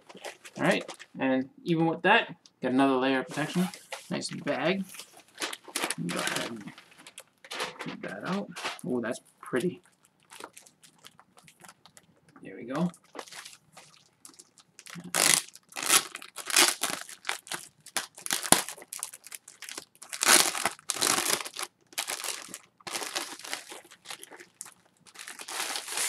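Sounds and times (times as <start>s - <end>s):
plastic packaging crinkling: 0.0s - 1.2s, 3.3s - 9.0s, 9.8s - 26.0s.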